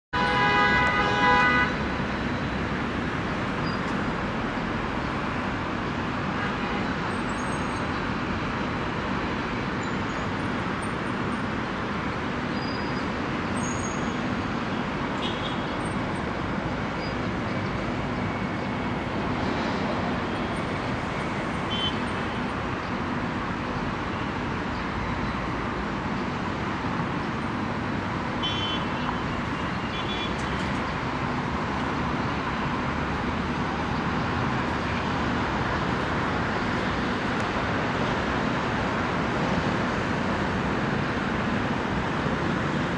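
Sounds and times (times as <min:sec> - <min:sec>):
city road traffic hum: 0:00.1 - 0:42.9.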